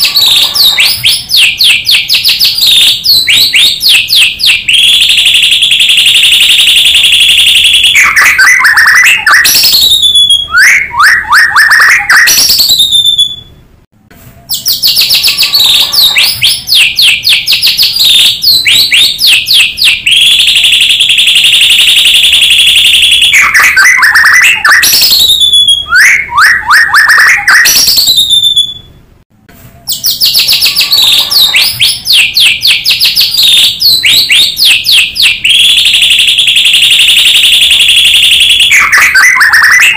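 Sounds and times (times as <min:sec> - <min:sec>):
bird song trills and whistles: 0:00.0 - 0:13.6, 0:14.4 - 0:29.0, 0:29.8 - 0:39.9.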